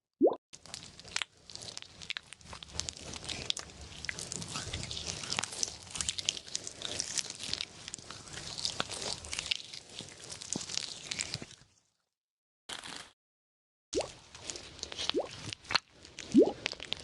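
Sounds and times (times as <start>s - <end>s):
slime squishing with small crackles: 0.6s - 11.8s, 14.0s - 17.0s.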